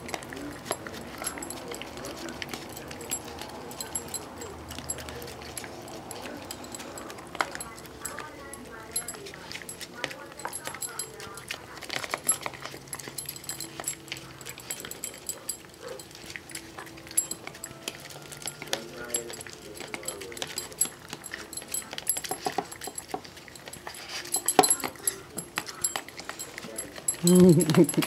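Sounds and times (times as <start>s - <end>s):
puppy eating from a bowl: 0.0s - 28.0s.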